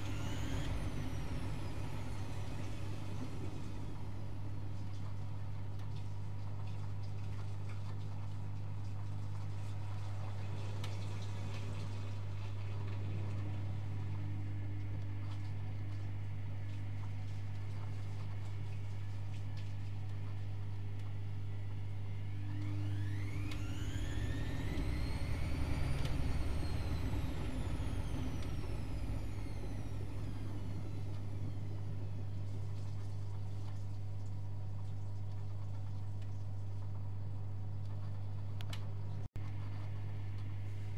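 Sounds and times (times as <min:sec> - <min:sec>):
water moving in washing machine: 0:00.0 - 0:21.2, 0:22.2 - 0:38.4
washing machine hum: 0:00.0 - 0:40.9.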